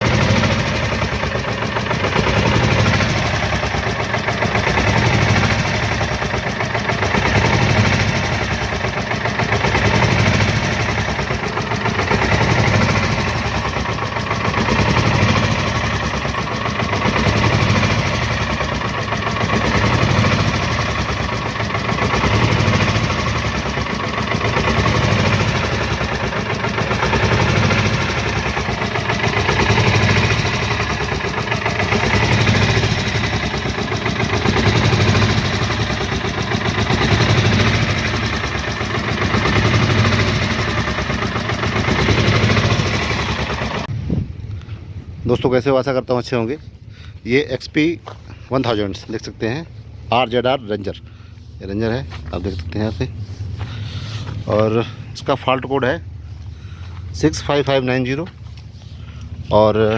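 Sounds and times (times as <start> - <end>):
engine idling unevenly: 0.0 - 59.9.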